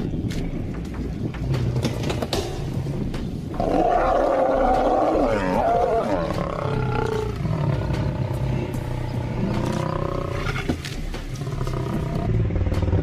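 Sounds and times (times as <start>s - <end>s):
lion growling: 1.1s - 13.0s.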